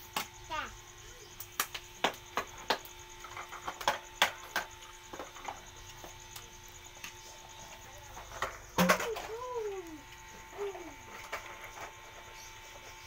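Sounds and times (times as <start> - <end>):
faint steady hum: 0.0 - 13.0
plastic toys clicking on concrete: 1.4 - 12.3.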